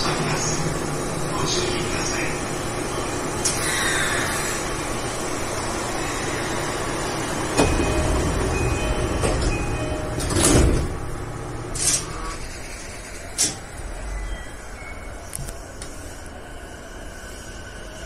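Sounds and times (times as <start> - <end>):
train rumbling through tunnel: 0.0 - 18.0.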